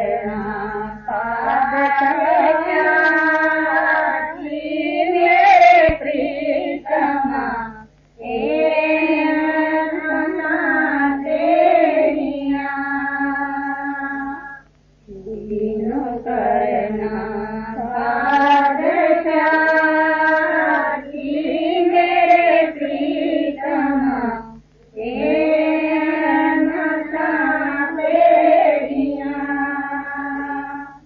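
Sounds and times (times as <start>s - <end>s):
person singing devotional song: 0.0s - 31.0s.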